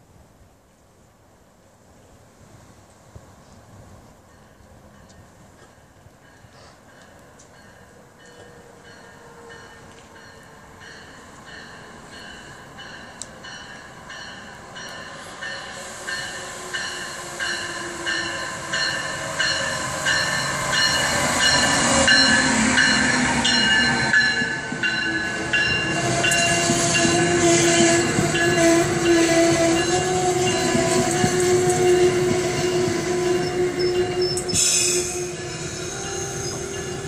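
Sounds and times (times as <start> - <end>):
low train whine: 0.1 - 37.0
train cars rolling past: 3.4 - 37.0
locomotive bell ringing: 4.3 - 37.0.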